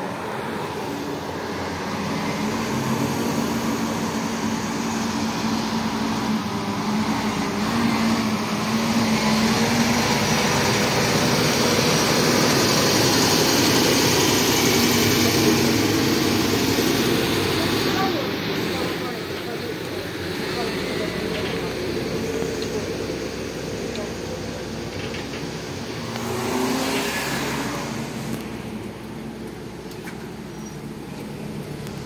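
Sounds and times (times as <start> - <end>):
diesel truck engine humming: 0.0 - 32.0
road and tyre noise: 0.0 - 32.0.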